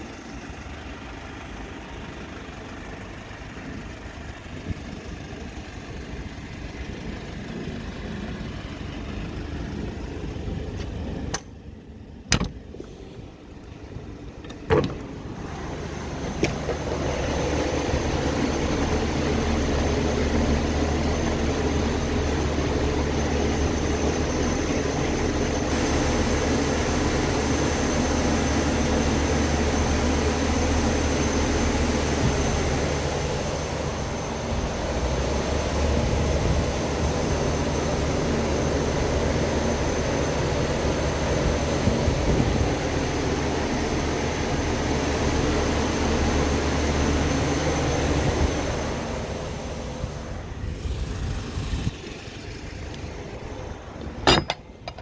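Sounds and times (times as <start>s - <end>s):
refrigeration unit droning: 0.0s - 55.0s.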